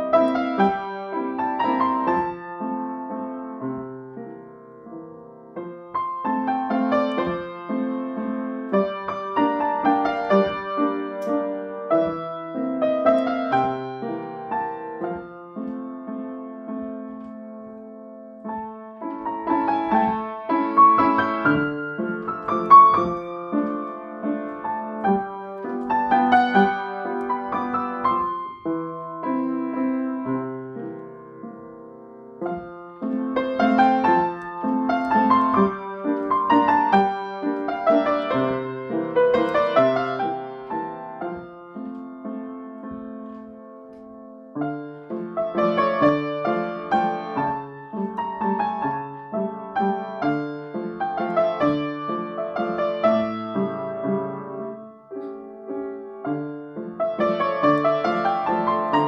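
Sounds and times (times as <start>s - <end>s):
piano waltz: 0.0s - 59.0s.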